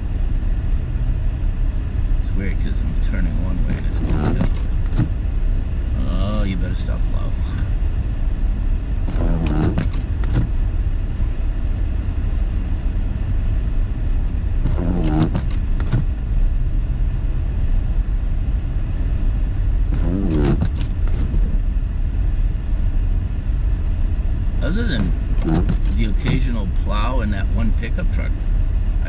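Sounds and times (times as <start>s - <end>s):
car driving cabin rumble: 0.0s - 29.0s.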